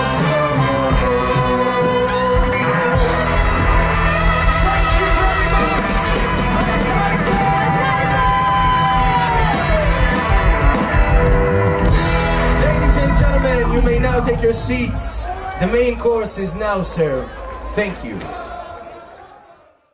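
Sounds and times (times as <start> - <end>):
live band playing amplified music: 0.0 - 18.0.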